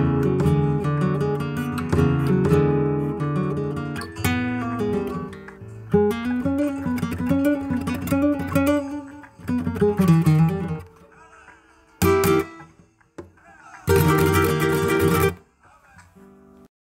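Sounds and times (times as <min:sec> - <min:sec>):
flamenco guitar strumming: 0:00.0 - 0:11.2, 0:12.0 - 0:15.5.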